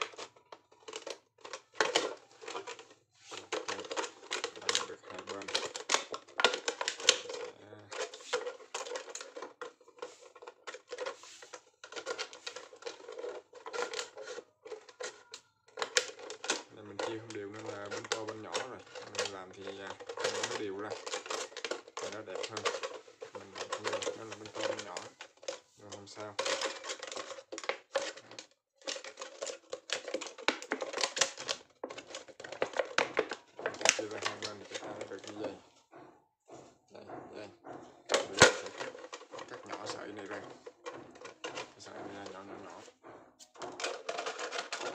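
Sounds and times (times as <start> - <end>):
plastic bottle crinkling: 0.0 - 35.7, 37.0 - 44.9.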